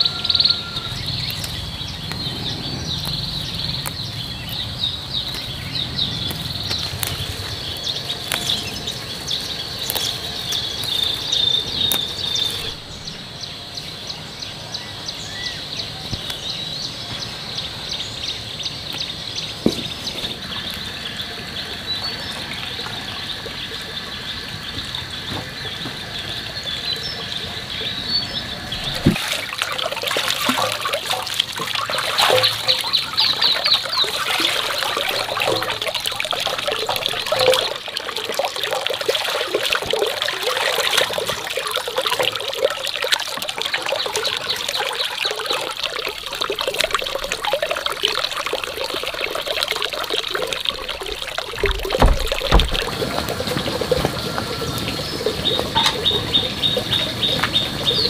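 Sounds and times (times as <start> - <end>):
water running into basin: 0.0 - 13.9, 18.8 - 58.0
greens washed by hand in water: 0.0 - 17.8, 18.7 - 58.0.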